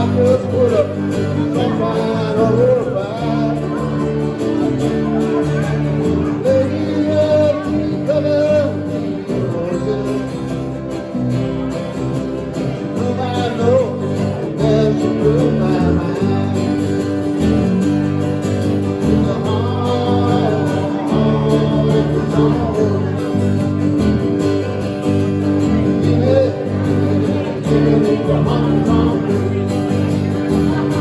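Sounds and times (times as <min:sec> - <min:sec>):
person singing: 0:00.0 - 0:11.0, 0:12.6 - 0:24.0, 0:24.6 - 0:31.0
country band playing: 0:00.0 - 0:31.0
guitar: 0:00.0 - 0:31.0.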